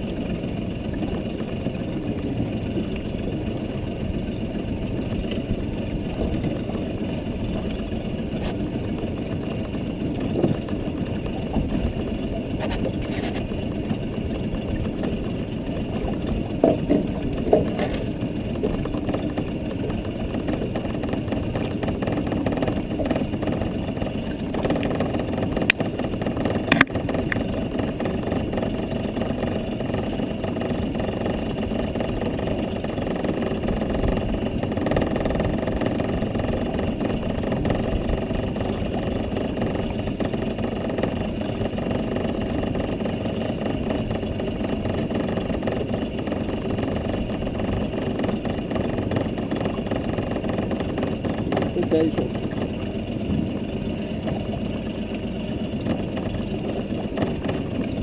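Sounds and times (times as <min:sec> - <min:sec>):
boat engine idling: 0:00.0 - 0:58.0.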